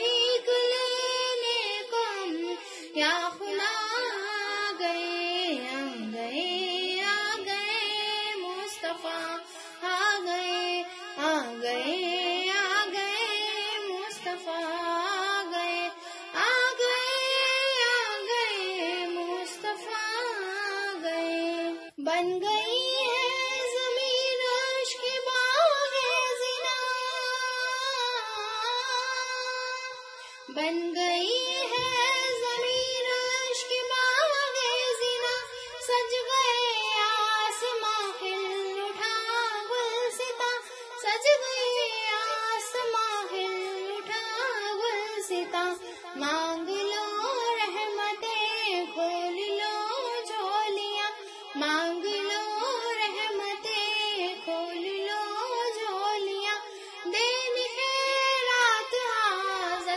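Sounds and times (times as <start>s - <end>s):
high voice singing devotional song: 0.0s - 59.9s.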